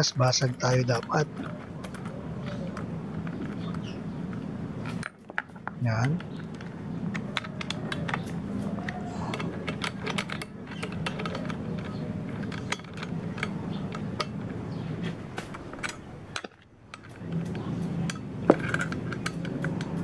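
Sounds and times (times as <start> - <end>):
steady low hum: 0.0 - 20.0
small metal clicks and clinks: 0.6 - 14.8, 15.4 - 20.0.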